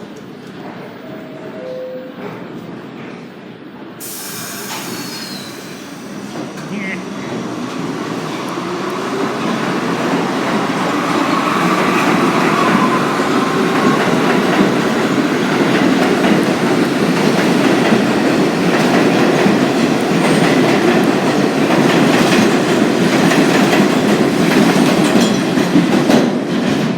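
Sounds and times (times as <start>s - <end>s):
subway train rail rumble: 0.0s - 26.9s.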